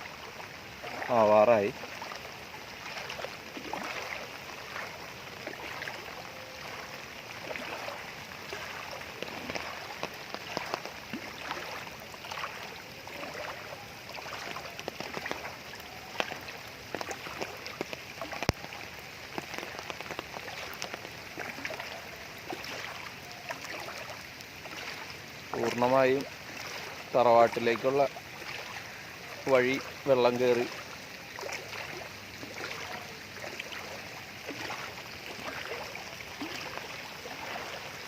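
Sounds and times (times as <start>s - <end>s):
wading through water splashing: 0.0s - 38.0s.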